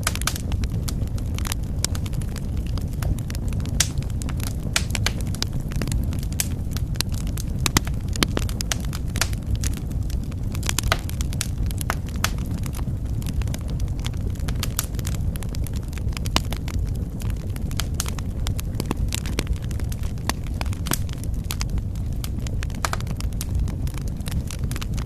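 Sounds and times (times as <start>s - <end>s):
fire crackling and popping: 0.0s - 25.0s
low steady rumble: 0.0s - 25.0s.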